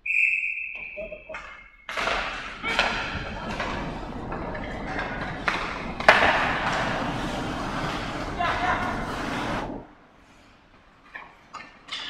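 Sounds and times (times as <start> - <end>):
hockey sticks clacking on puck: 0.7 - 9.6, 11.0 - 12.0
skates scraping ice: 1.8 - 12.0.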